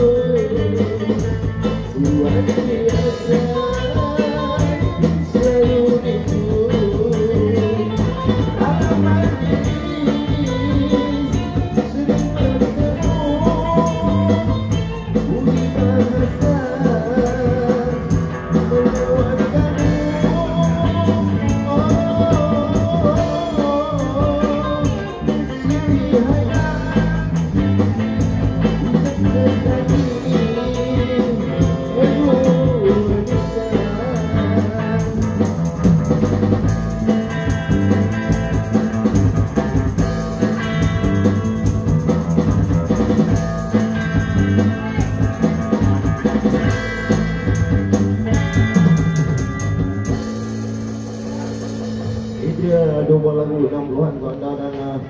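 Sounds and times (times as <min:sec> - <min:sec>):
drum kit beat: 0:00.0 - 0:52.8
electric guitar: 0:00.0 - 0:55.0.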